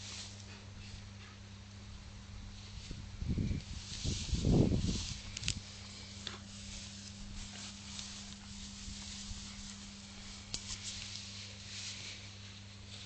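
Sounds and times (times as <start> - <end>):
dogs rustling through grass: 0.0 - 1.2, 2.3 - 13.0
low hum and hiss: 0.0 - 13.0.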